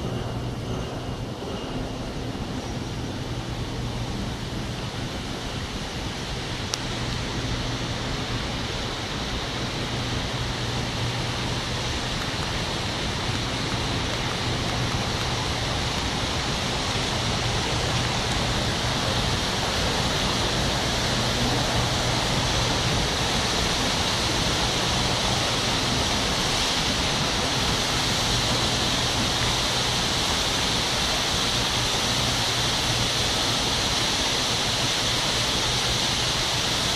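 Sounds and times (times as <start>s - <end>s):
fountain water jets splashing: 3.2s - 36.9s.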